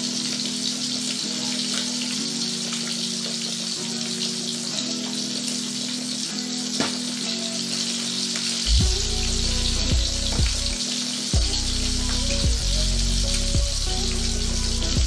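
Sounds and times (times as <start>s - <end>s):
fish frying in hot oil: 0.0s - 15.0s
soft background music: 0.0s - 15.0s.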